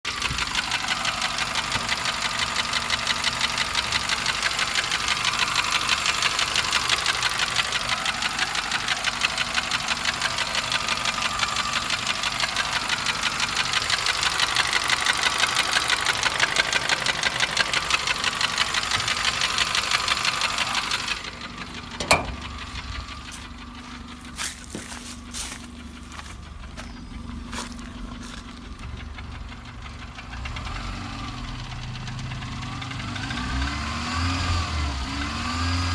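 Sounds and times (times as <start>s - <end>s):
engine running: 0.1s - 35.9s.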